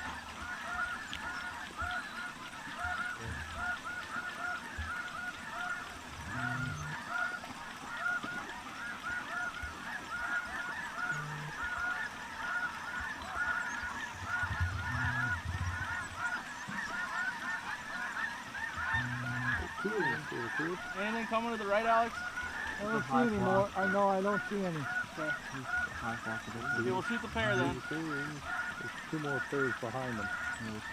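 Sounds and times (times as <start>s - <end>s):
flock of geese honking: 0.0s - 30.9s.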